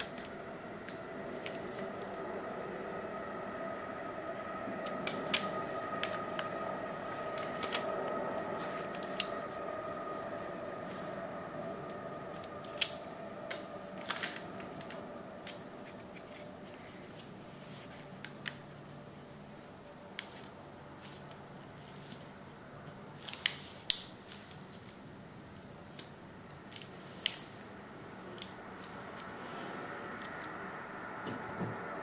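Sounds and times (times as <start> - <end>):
paper crackling as folded: 0.0 - 3.2, 4.2 - 30.6
faint steady hum: 0.0 - 32.0.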